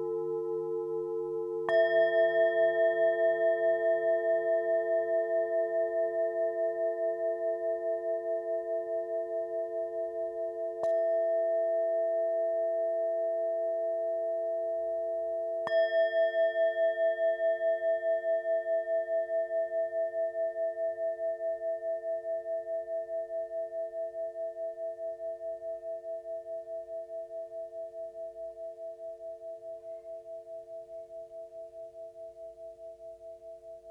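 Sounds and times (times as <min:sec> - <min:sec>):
singing bowls ringing: 0:00.0 - 0:33.9.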